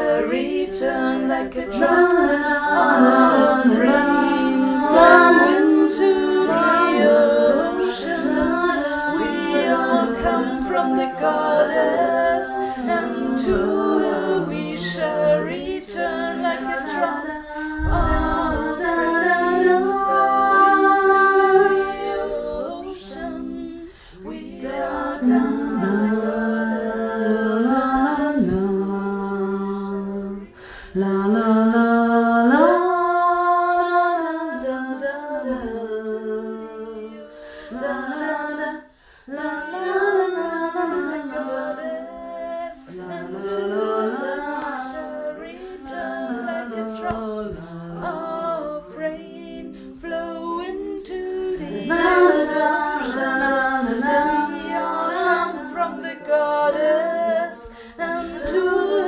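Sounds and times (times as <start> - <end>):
person singing a cappella: 0.0 - 59.0.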